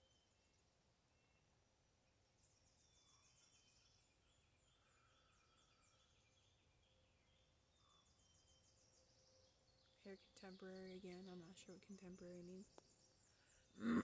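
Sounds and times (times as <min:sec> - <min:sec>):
distant small birds singing: 0:00.0 - 0:14.0.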